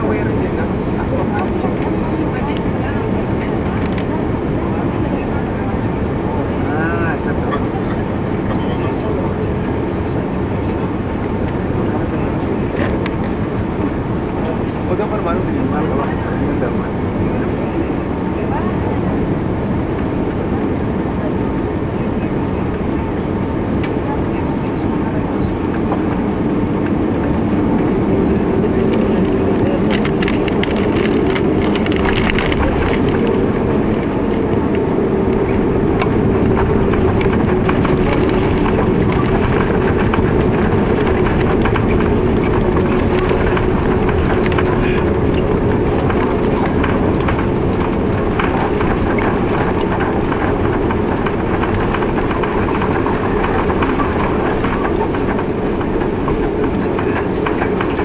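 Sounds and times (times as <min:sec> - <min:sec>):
engine and airflow rumble: 0:00.0 - 0:58.0.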